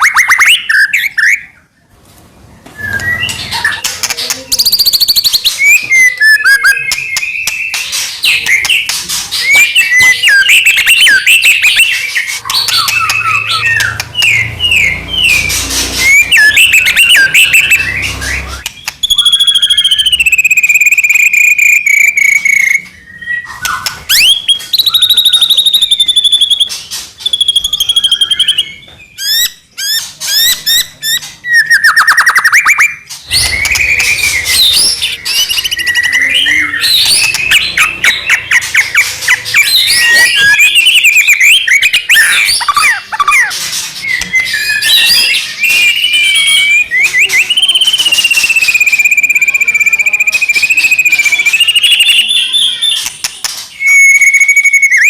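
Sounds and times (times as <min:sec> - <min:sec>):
songbird singing varied song: 0:02.7 - 0:43.3, 0:44.0 - 0:55.0.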